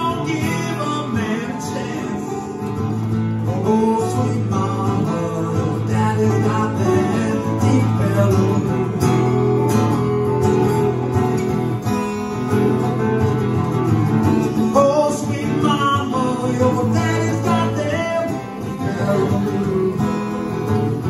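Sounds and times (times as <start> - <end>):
acoustic guitars playing blues: 0.0 - 21.0.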